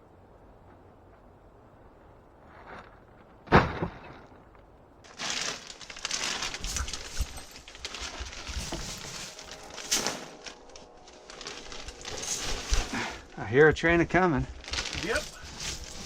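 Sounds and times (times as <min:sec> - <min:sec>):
crunching and crackling debris: 0:02.2 - 0:16.0.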